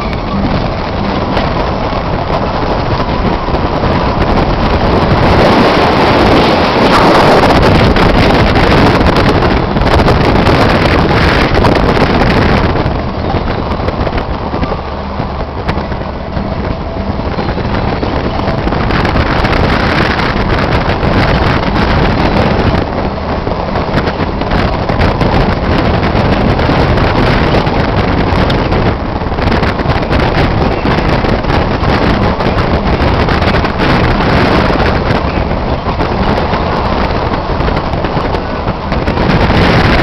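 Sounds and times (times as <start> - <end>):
vehicle driving on dirt road: 0.0 - 40.0
wind buffeting microphone: 0.0 - 40.0.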